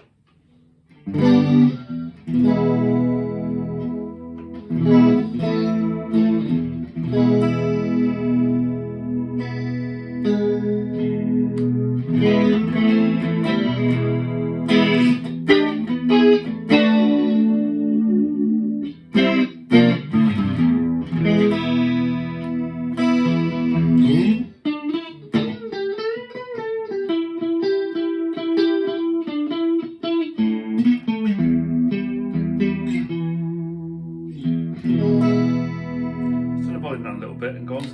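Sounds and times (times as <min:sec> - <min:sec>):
electric guitar with chorus effect: 0:00.0 - 0:37.9.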